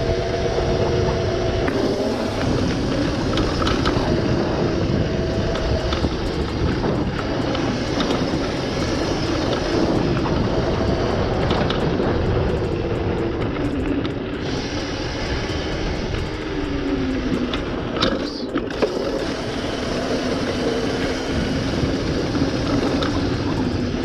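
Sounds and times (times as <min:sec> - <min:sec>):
electric motor and chain whine: 0:00.0 - 0:24.0
heavy low rumble: 0:00.0 - 0:24.0.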